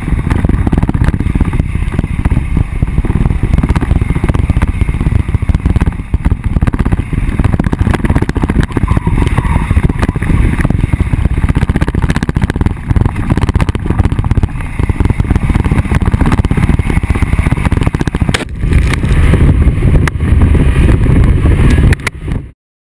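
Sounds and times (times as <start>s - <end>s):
off-road vehicle driving on dirt: 0.0s - 22.5s.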